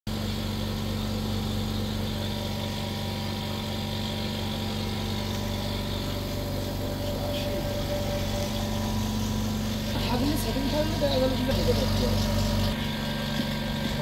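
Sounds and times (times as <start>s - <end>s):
air compressor humming: 0.1s - 14.0s.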